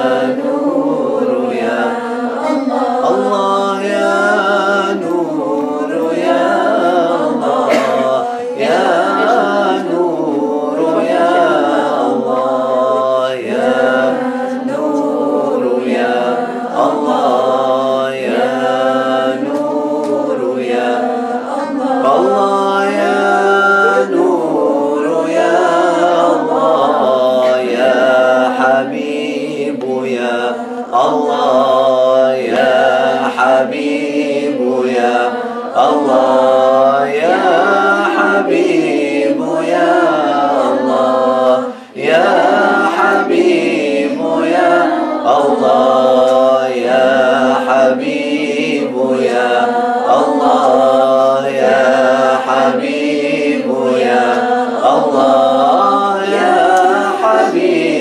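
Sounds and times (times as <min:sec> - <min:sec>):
group chanting melodically: 0:00.0 - 0:58.0.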